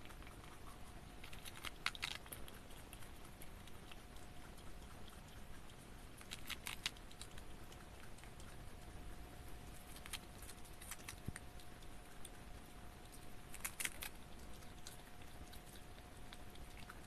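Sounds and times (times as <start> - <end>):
squirrel chewing lettuce: 0.0 - 17.0.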